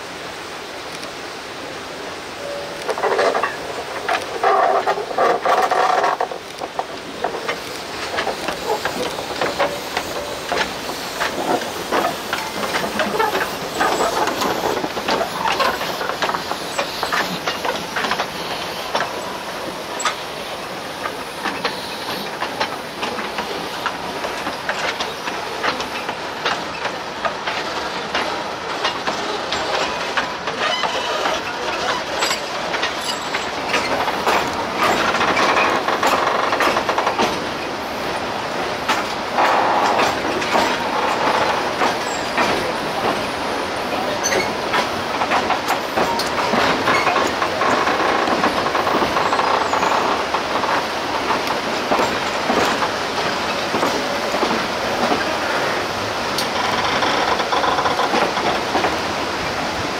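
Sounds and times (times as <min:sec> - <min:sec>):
steam hissing: 0:00.0 - 0:59.9
train wheels clanking over rail joints: 0:02.4 - 0:59.9.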